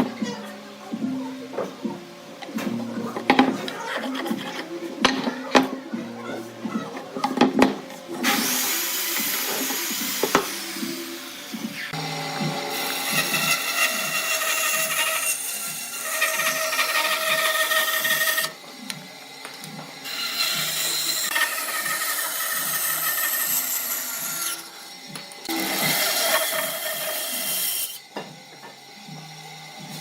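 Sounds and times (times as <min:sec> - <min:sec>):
power tool whining on wood: 0:02.5 - 0:30.0.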